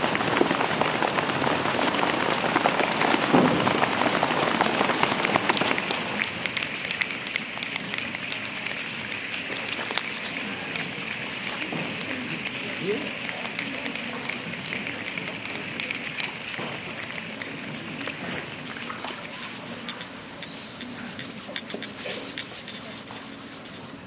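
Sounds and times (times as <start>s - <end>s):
hands and feet rain patter: 0.0s - 24.0s.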